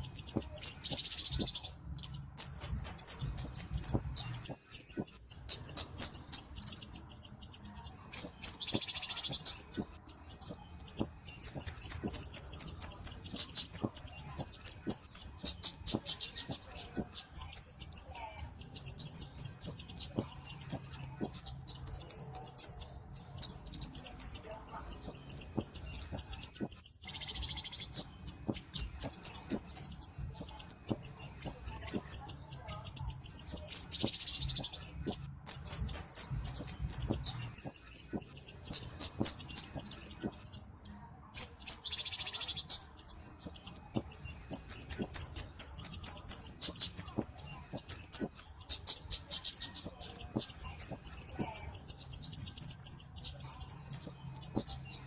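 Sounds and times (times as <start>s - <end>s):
bird high ticking song: 0.0s - 55.0s.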